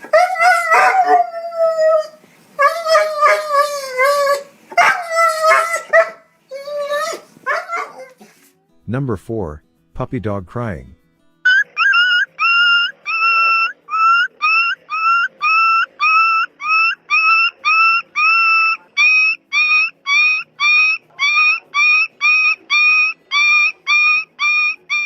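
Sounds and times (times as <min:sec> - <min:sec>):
puppy whimpering: 0:00.0 - 0:08.4, 0:11.5 - 0:25.0.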